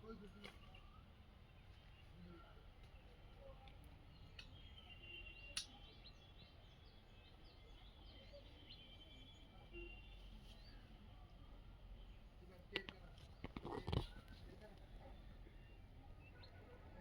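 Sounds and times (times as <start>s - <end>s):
small birds chirping: 0.1s - 17.0s.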